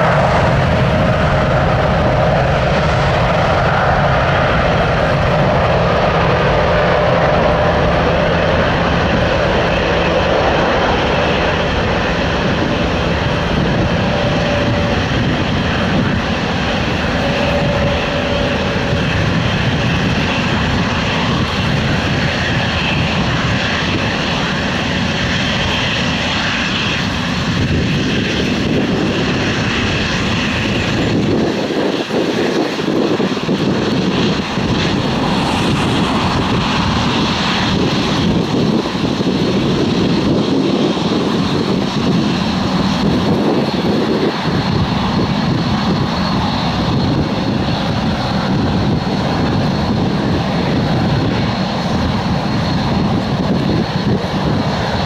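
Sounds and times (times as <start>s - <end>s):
jet engines at takeoff thrust: 0.0s - 55.0s
thin engine whine: 0.0s - 55.0s.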